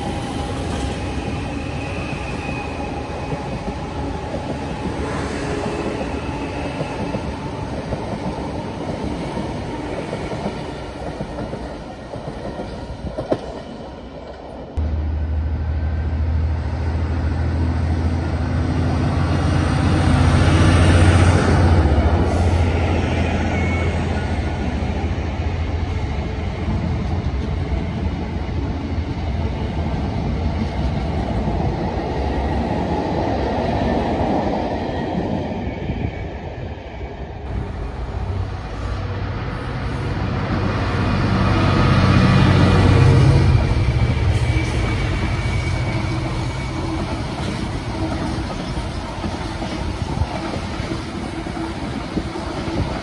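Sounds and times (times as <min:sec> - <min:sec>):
diesel locomotives approaching: 0:00.0 - 0:53.0
train coaches rumbling on rails: 0:00.0 - 0:53.0
train engine drone: 0:00.0 - 0:53.0.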